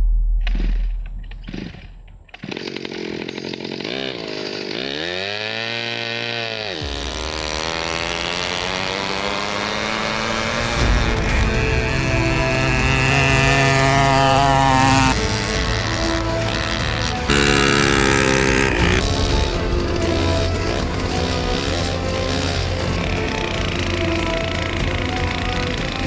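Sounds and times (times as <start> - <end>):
small gasoline engine revving: 2.4 - 26.0.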